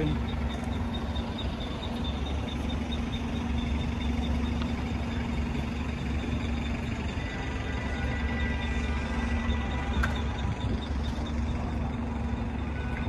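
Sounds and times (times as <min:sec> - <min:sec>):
engine hum: 0:00.0 - 0:13.0
traffic engine rumble: 0:00.0 - 0:13.0.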